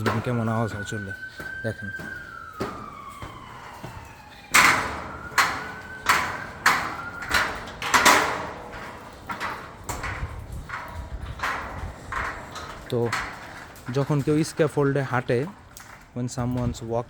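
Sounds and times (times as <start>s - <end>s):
footsteps on metal scaffolding: 0.0s - 17.0s.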